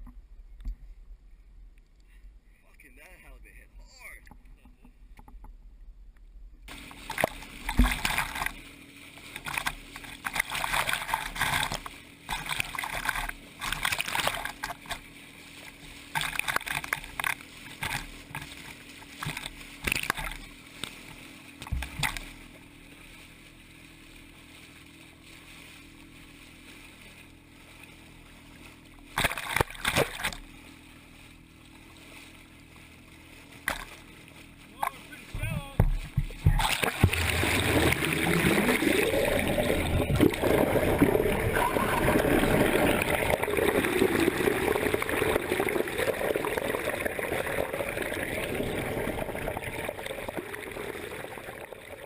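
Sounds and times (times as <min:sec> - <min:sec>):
faint steady hum: 0:00.0 - 0:52.0
water splashing against boat: 0:06.6 - 0:52.0.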